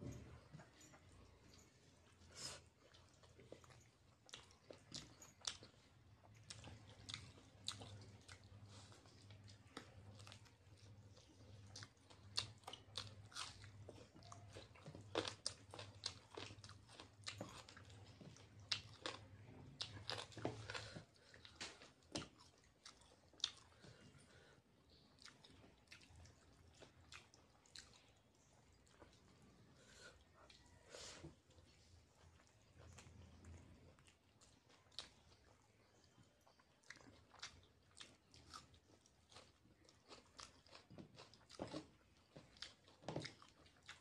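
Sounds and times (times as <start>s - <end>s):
man chewing close to microphone: 0.0s - 44.0s.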